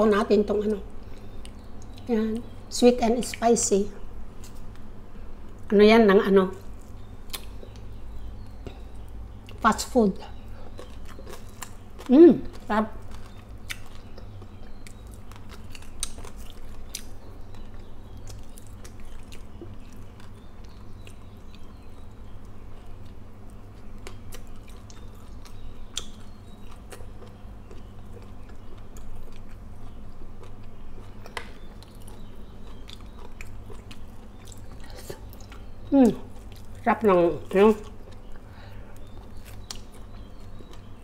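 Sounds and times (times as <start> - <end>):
close chewing mouth sounds: 6.6 - 41.0.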